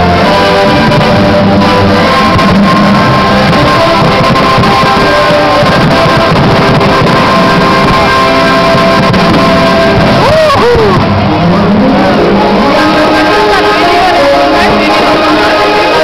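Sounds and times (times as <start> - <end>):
instrumental music over loudspeakers: 0.0 - 16.0.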